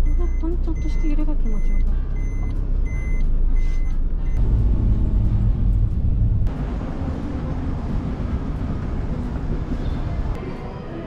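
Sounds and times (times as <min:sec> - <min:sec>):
car engine and road rumble: 0:00.0 - 0:10.5.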